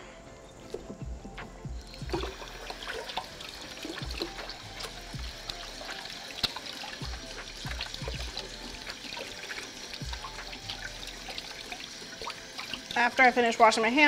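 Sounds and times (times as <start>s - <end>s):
tap water splashing in sink: 0.7s - 13.8s.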